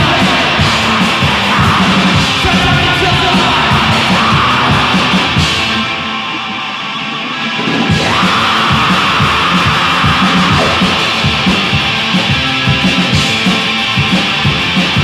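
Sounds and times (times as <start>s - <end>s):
distorted guitars: 0.0s - 15.0s
drums: 0.0s - 15.0s.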